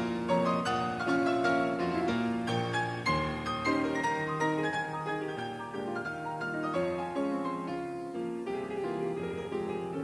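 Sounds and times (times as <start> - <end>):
instrumental music with sustained notes: 0.0 - 10.0.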